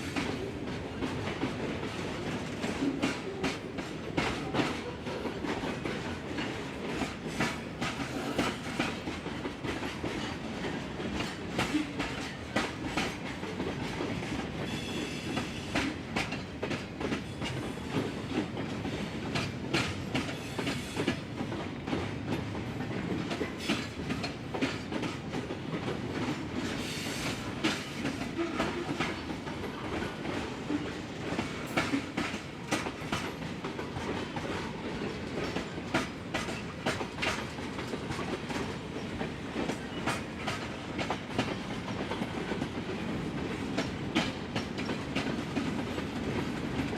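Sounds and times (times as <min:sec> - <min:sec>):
freight train rumbling: 0:00.0 - 0:46.9
wheels clacking over rail joints: 0:00.2 - 0:46.9.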